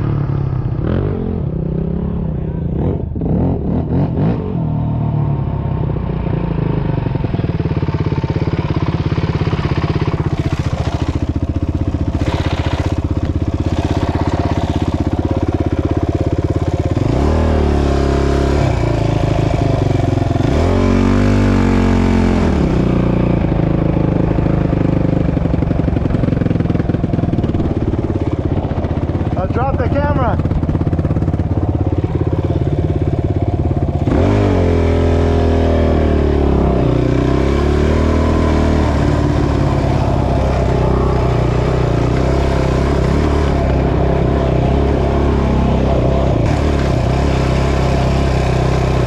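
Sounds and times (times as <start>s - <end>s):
atv engine running and revving: 0.0s - 49.0s.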